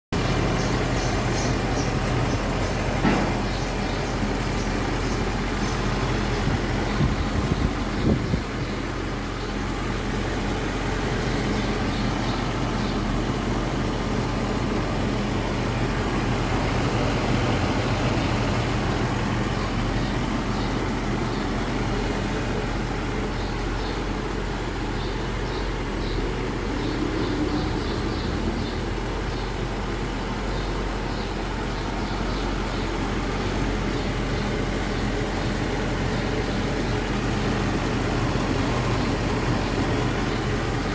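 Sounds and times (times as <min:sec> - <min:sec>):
car engine purring: 0:00.1 - 0:40.9.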